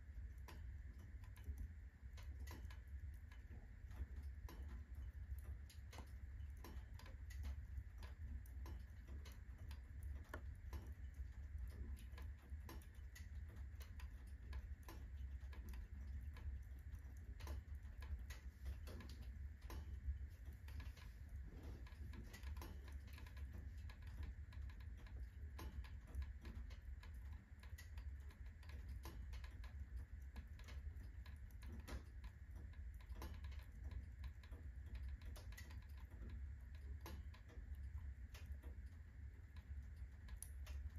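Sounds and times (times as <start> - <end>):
low steady fire rumble: 0.0 - 40.9
wood fire crackling and popping: 0.0 - 40.9.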